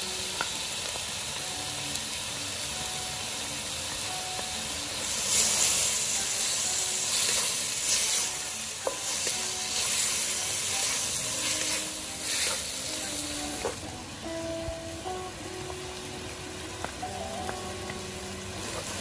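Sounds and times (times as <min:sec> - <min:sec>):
beef sizzling in a wok: 0:00.0 - 0:19.0.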